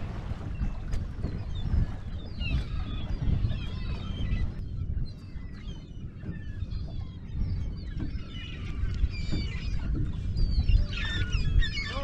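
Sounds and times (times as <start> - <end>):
seabirds calling: 0.0 - 12.0.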